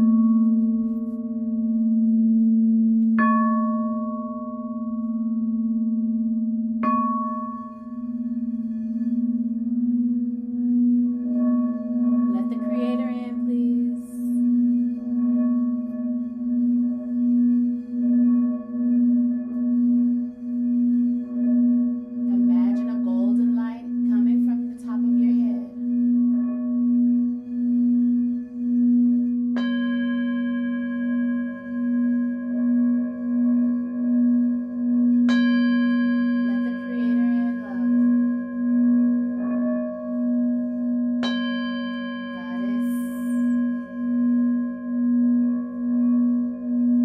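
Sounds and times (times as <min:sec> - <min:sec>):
singing bowl humming: 0:00.0 - 0:47.0.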